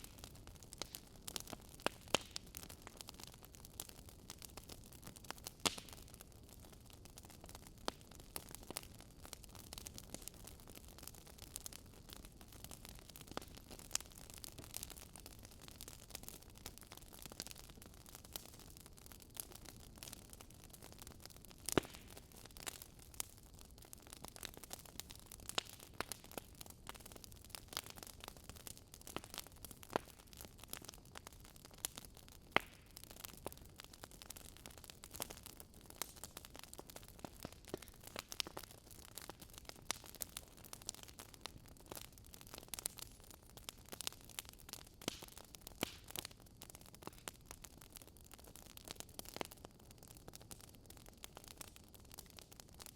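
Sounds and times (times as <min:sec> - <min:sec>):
burning logs crackling: 0:00.0 - 0:52.9.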